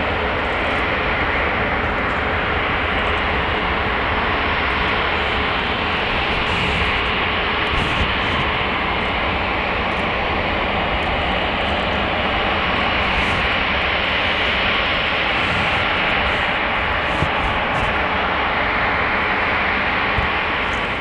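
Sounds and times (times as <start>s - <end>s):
faint steady hum: 0.0s - 21.0s
jet engines rushing: 0.0s - 21.0s.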